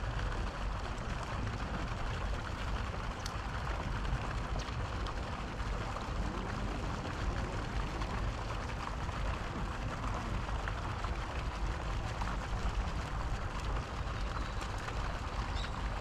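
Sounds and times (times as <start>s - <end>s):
rushing hiss with low rumble: 0.0s - 16.0s.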